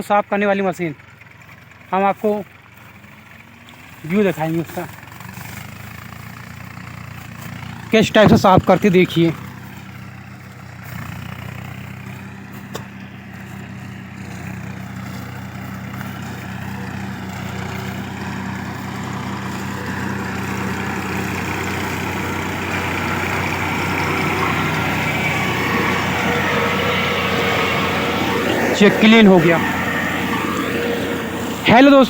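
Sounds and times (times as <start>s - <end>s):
tractor engine hum: 0.0s - 32.0s.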